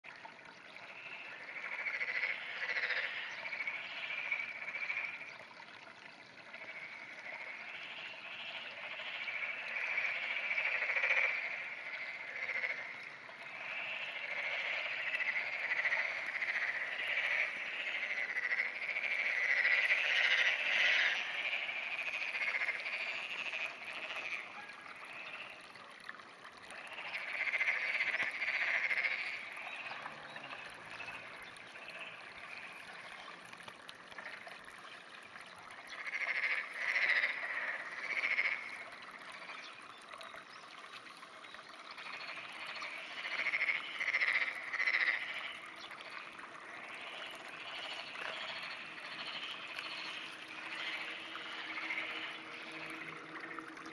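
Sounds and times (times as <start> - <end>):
frogs croaking in chorus: 0.4 - 53.9.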